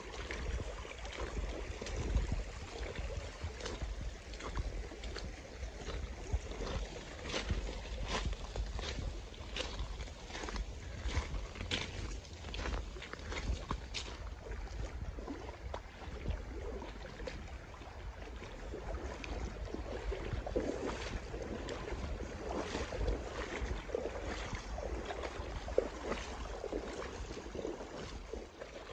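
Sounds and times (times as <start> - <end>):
stream water running over gravel: 0.0 - 28.9
wind buffeting microphone: 0.0 - 28.9.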